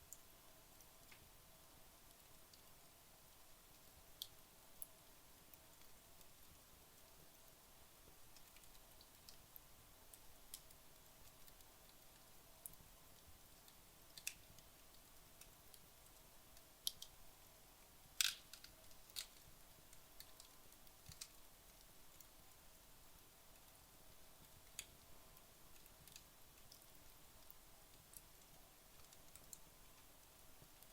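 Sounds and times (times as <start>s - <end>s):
faint fire hiss: 0.0s - 30.9s
fire crackling and popping: 2.0s - 30.9s.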